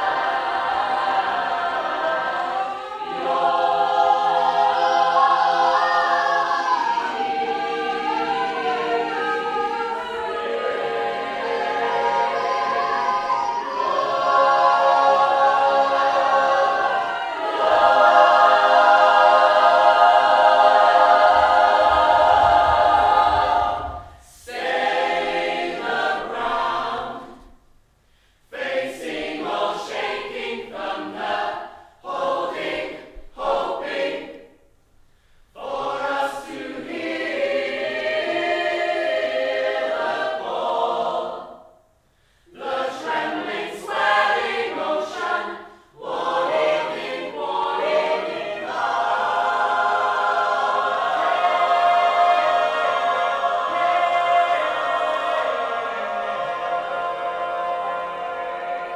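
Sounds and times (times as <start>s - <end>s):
voices singing in harmony: 0.0s - 27.7s, 28.5s - 34.7s, 35.5s - 58.9s.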